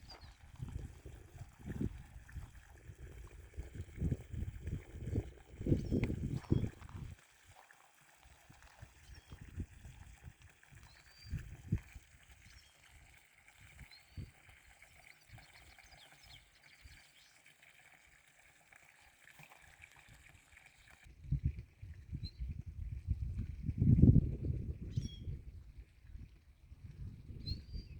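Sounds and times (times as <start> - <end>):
faint running water: 0.0 - 27.9.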